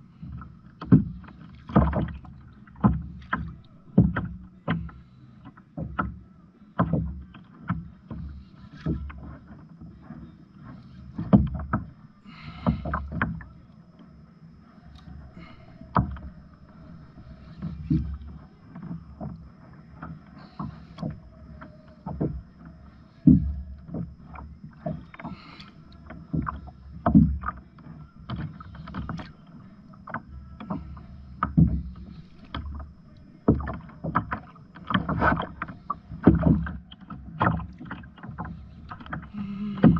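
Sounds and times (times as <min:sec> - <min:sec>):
water knocking against plastic hull: 0:00.0 - 0:14.4, 0:15.0 - 0:39.9
low water wash: 0:00.0 - 0:39.9.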